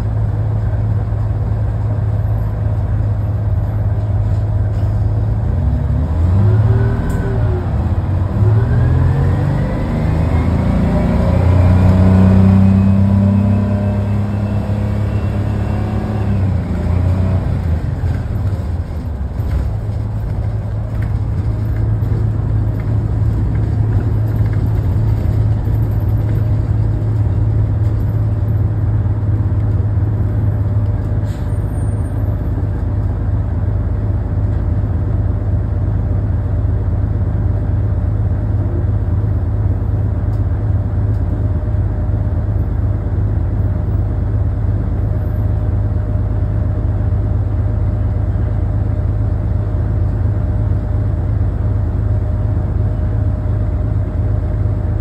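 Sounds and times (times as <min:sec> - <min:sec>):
bus rumble from inside cabin: 0:00.0 - 0:55.0.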